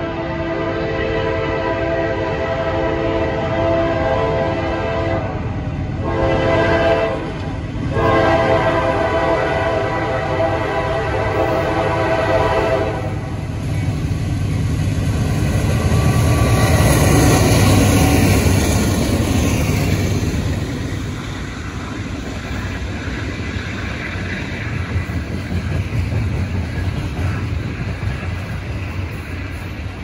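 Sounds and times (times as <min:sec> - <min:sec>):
diesel locomotives rumbling past: 0:00.0 - 0:30.0
rail cars rolling on rails: 0:00.0 - 0:30.0.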